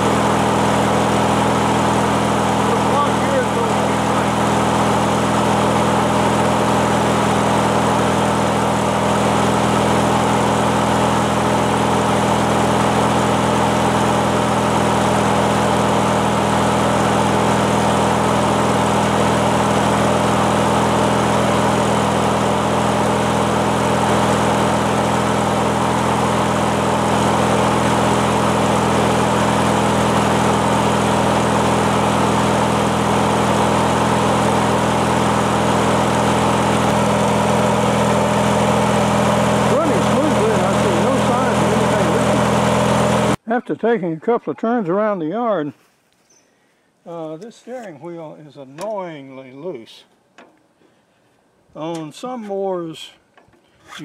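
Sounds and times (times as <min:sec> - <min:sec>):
riding mower engine running: 0:00.0 - 0:43.5, 0:51.8 - 0:54.0.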